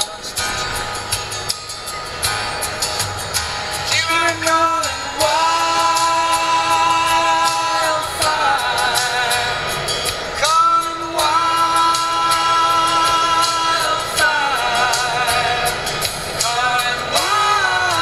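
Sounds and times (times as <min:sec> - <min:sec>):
song on car radio: 0:00.0 - 0:18.0.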